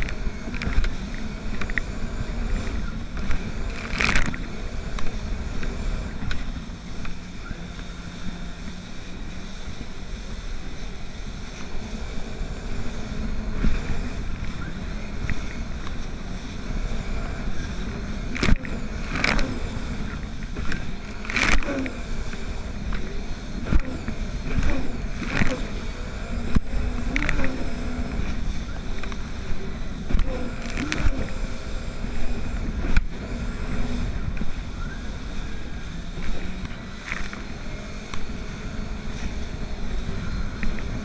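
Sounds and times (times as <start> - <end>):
jet ski engine drone: 0.0 - 41.0.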